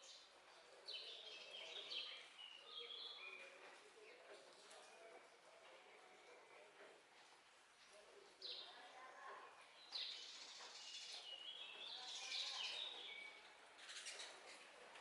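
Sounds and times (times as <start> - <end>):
faint birdsong: 0.0 - 5.0, 7.8 - 15.0.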